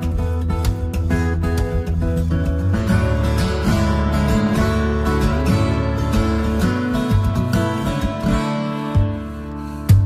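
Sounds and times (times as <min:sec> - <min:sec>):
solo acoustic guitar: 0:00.0 - 0:10.0.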